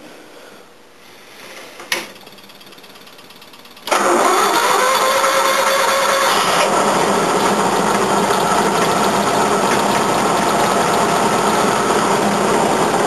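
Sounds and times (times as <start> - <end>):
small truck engine running: 2.5 - 13.0.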